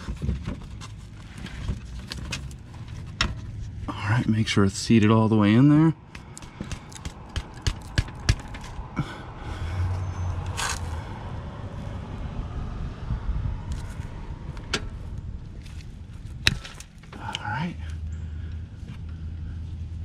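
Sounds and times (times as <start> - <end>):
steady background noise: 0.0 - 20.0
low hum: 1.7 - 20.0.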